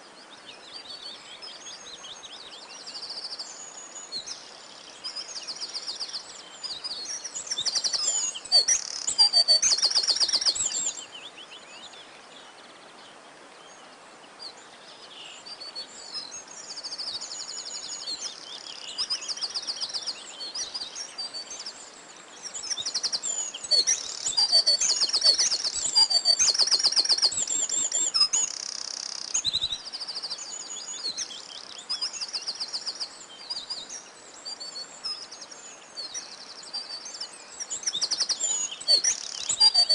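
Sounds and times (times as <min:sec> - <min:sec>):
faint background hiss: 0:00.0 - 0:39.9
songbirds trilling and chirping: 0:00.0 - 0:39.9.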